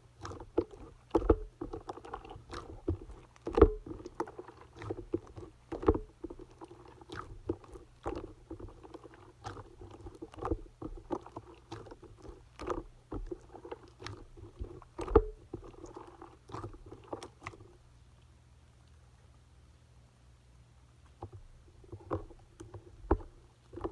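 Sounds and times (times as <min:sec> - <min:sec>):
wet slime squishing: 0:00.0 - 0:17.9, 0:21.2 - 0:23.9.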